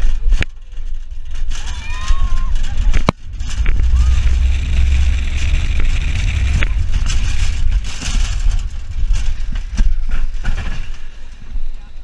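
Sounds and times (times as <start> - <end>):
roller coaster wheels rumbling on rails: 0.0 - 12.0
wind buffeting microphone: 1.7 - 11.7.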